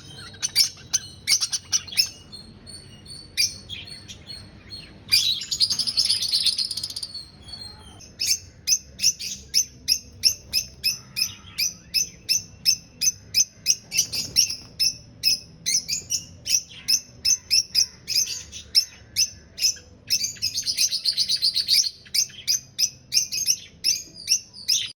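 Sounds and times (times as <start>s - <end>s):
lovebirds chirping and chattering: 0.0s - 24.9s.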